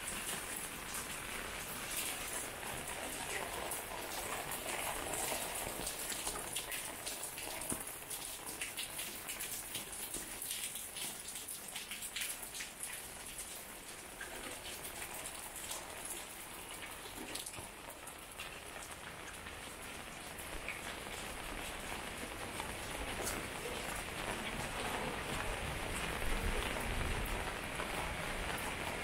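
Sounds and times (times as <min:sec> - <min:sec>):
rain drops hitting hard surfaces: 0:00.0 - 0:29.0.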